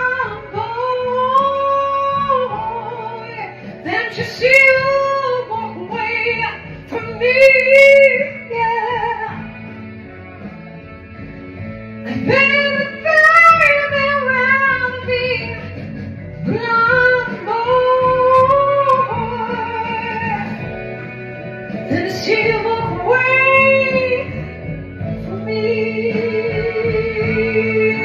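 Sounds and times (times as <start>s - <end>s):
steady musical accompaniment: 0.0s - 28.0s.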